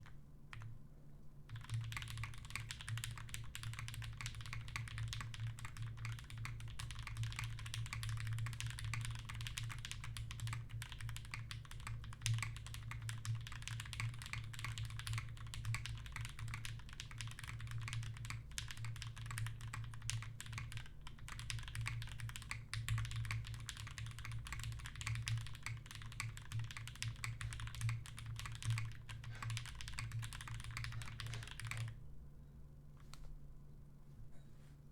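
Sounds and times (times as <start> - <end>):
fast mechanical keyboard typing: 1.5 - 32.0.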